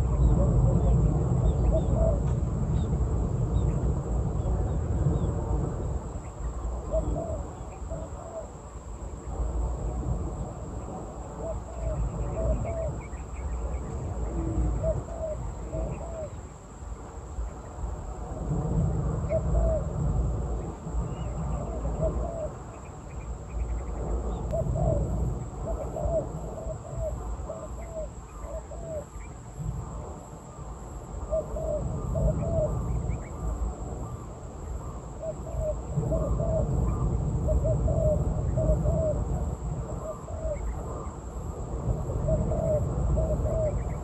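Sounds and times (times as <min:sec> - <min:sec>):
doves cooing: 0:00.0 - 0:16.6, 0:19.2 - 0:22.9, 0:24.3 - 0:44.0
high insect drone: 0:00.0 - 0:44.0.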